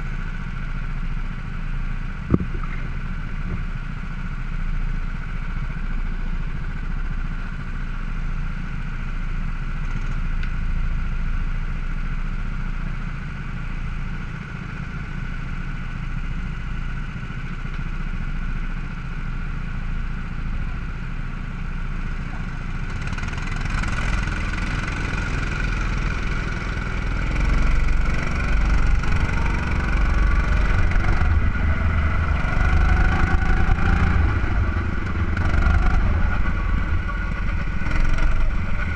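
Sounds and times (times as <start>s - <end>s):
go-kart engines idling and revving: 0.0s - 38.9s.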